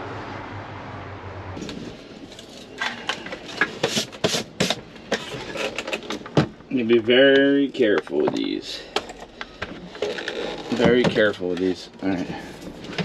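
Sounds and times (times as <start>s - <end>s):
plastic parts knocking and scraping: 1.6s - 13.0s.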